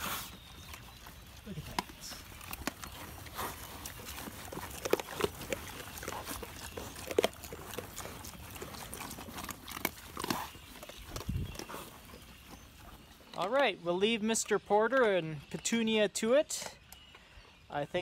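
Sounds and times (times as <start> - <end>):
pigs crunching nut shells: 0.0 - 18.0.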